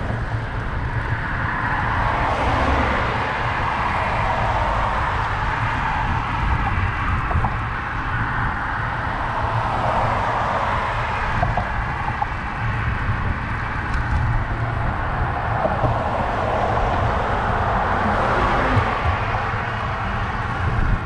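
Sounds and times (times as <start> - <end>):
car traffic: 0.0 - 21.0
continuous low rumble: 0.0 - 21.0.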